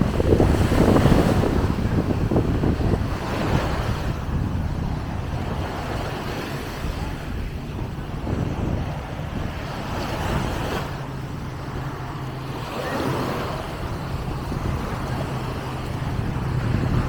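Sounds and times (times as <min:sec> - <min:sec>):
low engine hum: 0:00.0 - 0:17.0
small waves washing on sand: 0:00.0 - 0:17.0
wind on microphone: 0:00.0 - 0:17.0.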